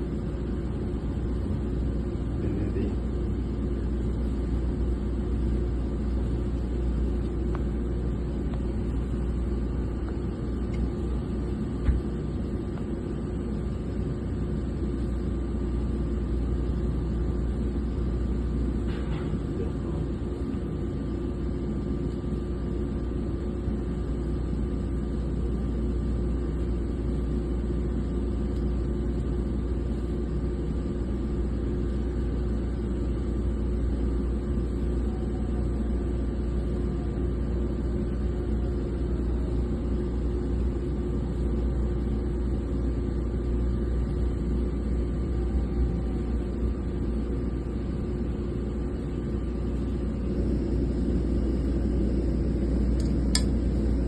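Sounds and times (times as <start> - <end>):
drilling machinery rumbling: 0.0 - 54.0
faint steady whine: 0.0 - 54.0.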